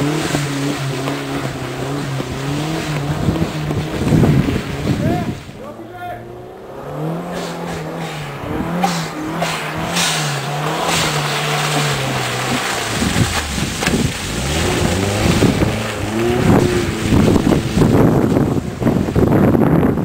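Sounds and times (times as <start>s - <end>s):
car engine revving: 0.0s - 20.0s
wheels churning through mud: 0.0s - 20.0s.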